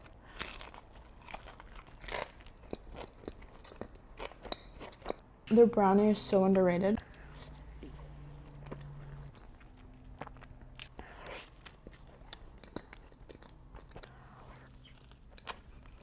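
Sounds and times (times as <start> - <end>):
person chewing food: 0.0 - 5.3, 7.0 - 16.0
food crunch: 0.2 - 5.2, 7.0 - 16.0.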